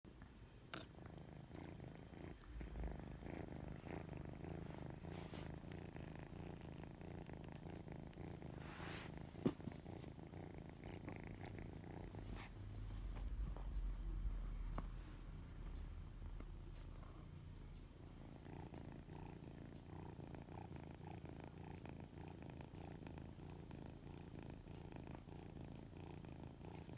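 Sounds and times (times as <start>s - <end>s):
kitten purring: 0.1s - 26.9s.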